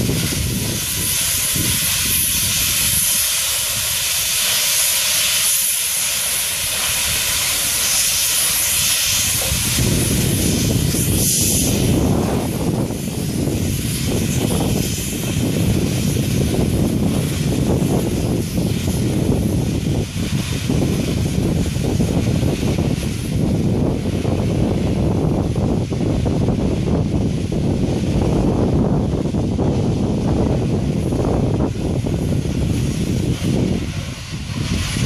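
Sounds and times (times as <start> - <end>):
steam hissing: 0.0 - 35.0.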